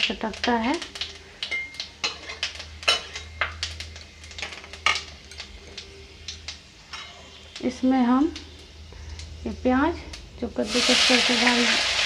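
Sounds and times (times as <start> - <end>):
spices crackling in hot oil: 0.0 - 12.0.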